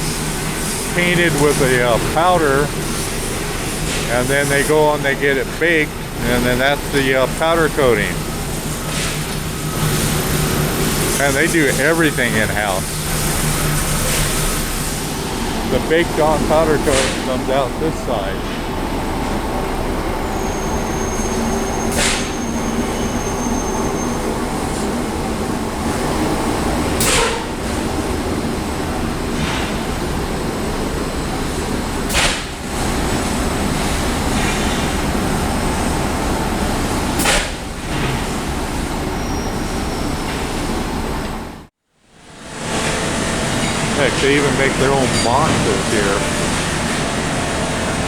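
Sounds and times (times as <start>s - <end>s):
factory machinery din: 0.0s - 38.9s, 42.4s - 48.0s.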